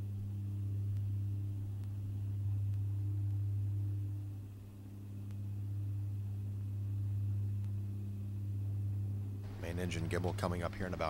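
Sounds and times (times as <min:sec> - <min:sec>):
faint high steady tones: 0:00.0 - 0:11.0
steady low hum: 0:00.0 - 0:11.0.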